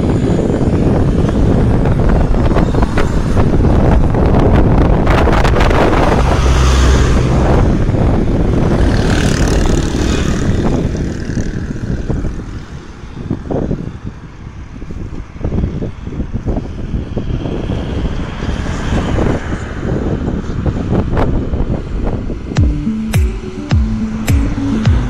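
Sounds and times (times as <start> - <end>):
wind buffeting microphone: 0.0 - 22.6.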